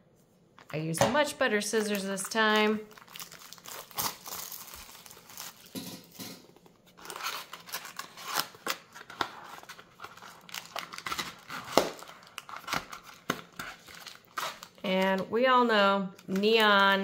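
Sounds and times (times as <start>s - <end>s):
plastic wrap crinkling: 1.7s - 15.3s.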